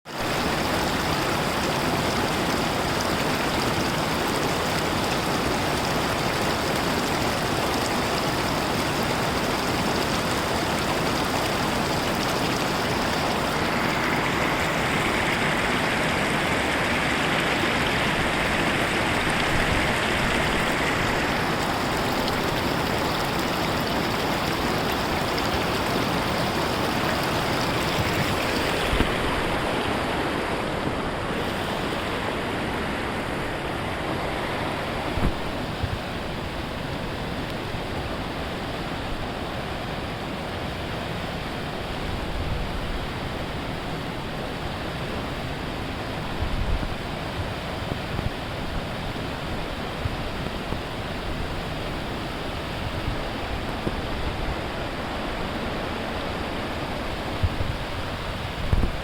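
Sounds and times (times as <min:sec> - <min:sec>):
rushing mountain stream: 0:00.1 - 0:59.0.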